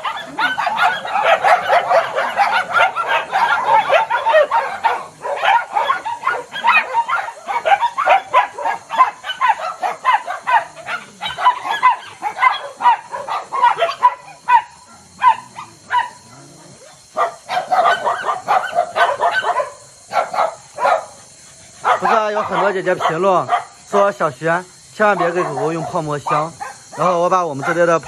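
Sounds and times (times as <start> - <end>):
dogs barking: 0.0 - 28.0.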